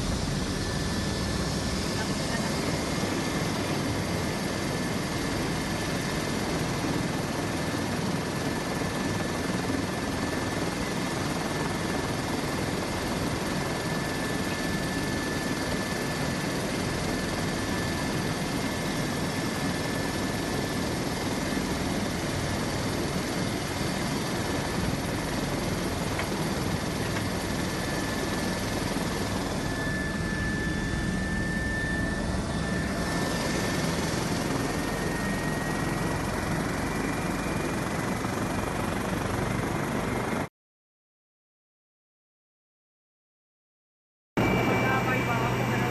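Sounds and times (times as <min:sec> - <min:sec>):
helicopter turbine and rotor running: 0:00.0 - 0:40.5, 0:44.4 - 0:45.9.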